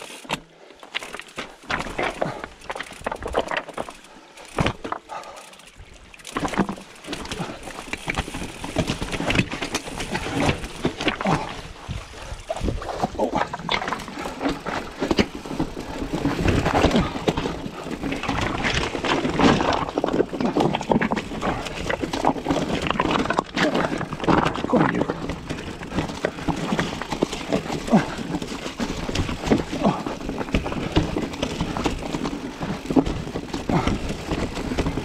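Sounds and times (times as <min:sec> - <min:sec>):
bike rattling and knocking: 0:00.0 - 0:35.0
bike tyre noise: 0:00.0 - 0:35.0.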